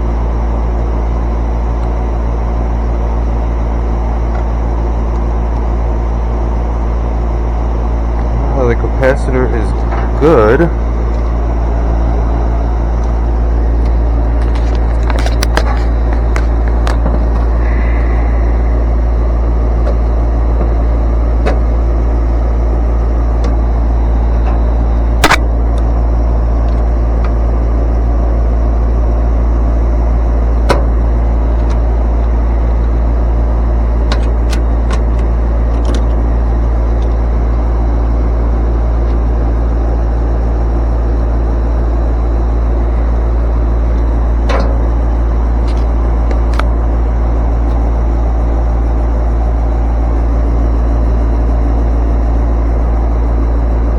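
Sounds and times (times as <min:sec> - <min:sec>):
condenser fan motor humming: 0:00.0 - 0:53.9.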